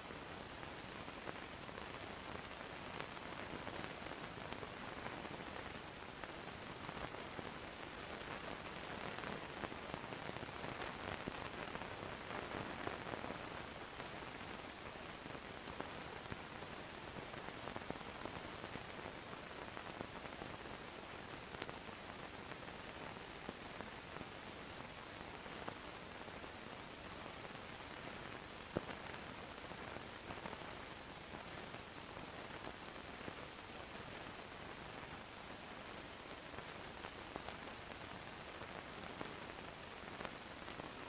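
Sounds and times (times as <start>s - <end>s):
film soundtrack hiss and crackle: 0.0s - 41.0s.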